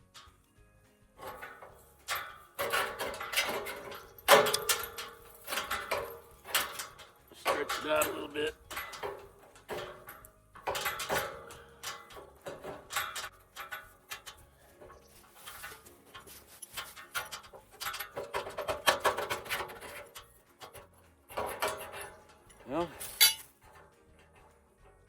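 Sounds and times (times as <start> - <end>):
metal gate hardware clanking: 0.0 - 0.4, 1.2 - 25.0.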